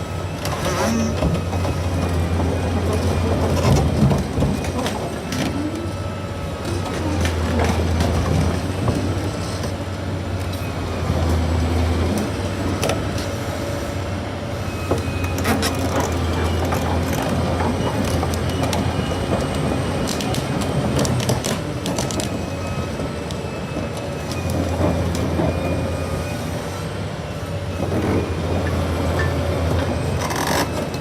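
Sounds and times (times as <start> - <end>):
excavator diesel drone: 0.0 - 31.0.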